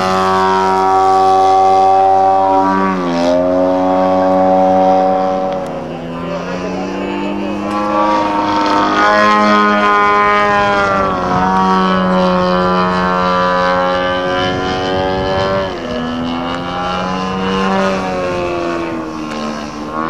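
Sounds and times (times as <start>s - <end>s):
model airplane engine and propeller: 0.0s - 20.0s.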